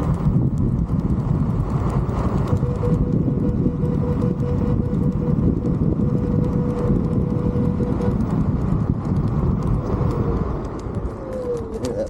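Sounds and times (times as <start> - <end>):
electric motor whining: 0.0 - 12.0
tire rumble: 0.0 - 12.0
wind buffeting on microphone: 0.0 - 12.0.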